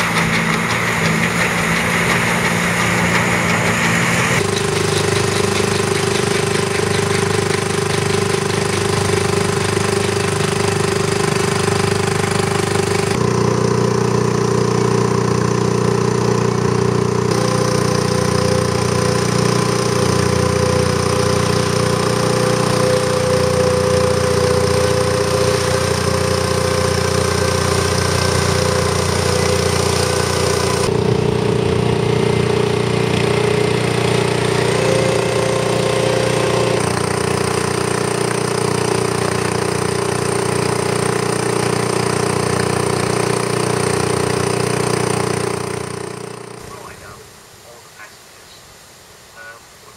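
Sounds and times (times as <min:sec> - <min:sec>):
paddle wheels churning water: 0:00.0 - 0:13.2, 0:17.3 - 0:45.6
boat engines running: 0:00.0 - 0:47.2.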